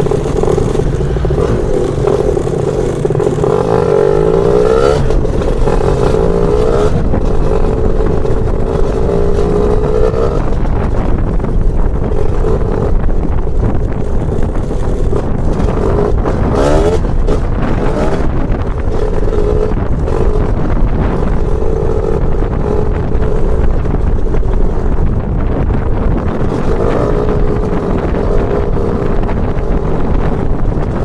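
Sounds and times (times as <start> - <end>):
two-stroke scooter engine revving: 0.0 - 31.0.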